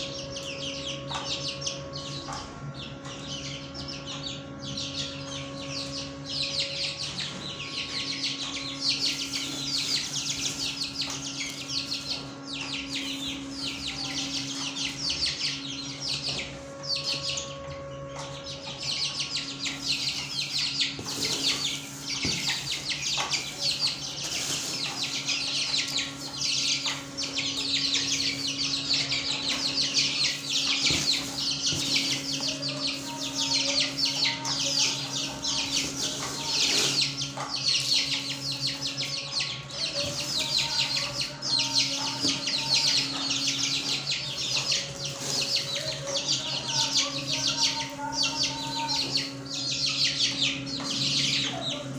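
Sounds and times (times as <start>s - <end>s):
caged birds chirping: 0.0s - 51.9s
steady low hum: 0.0s - 51.9s.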